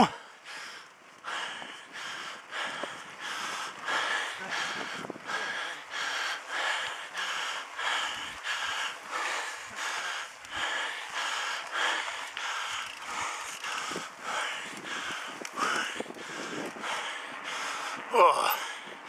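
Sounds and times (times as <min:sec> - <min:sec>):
cyclist panting hard: 0:00.0 - 0:19.0.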